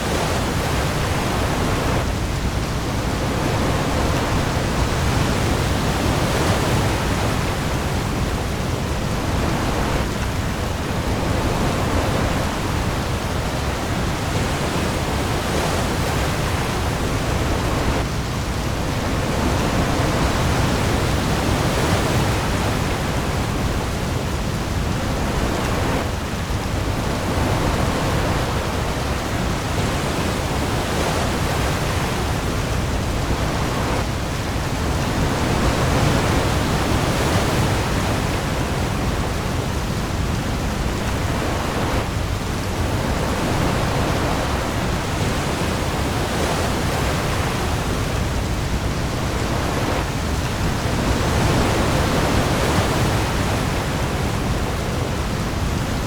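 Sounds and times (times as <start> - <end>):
heavy rain on the sea: 0.0 - 56.0
waves: 0.0 - 56.0.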